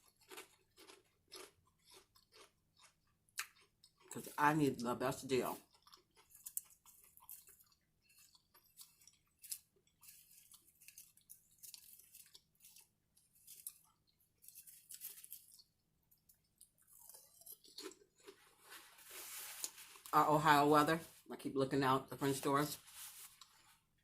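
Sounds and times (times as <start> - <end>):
faint chewing crunches: 0.0 - 20.2, 22.7 - 24.0.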